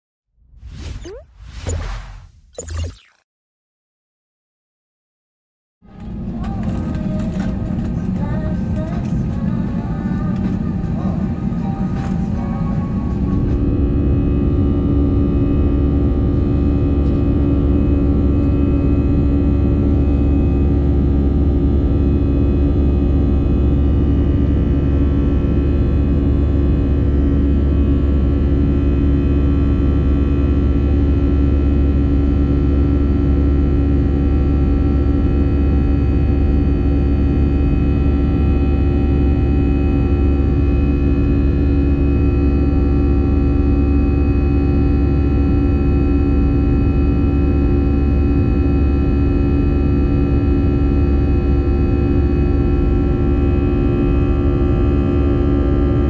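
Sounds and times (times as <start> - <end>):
jet engine rumble in cabin: 5.9 - 56.0.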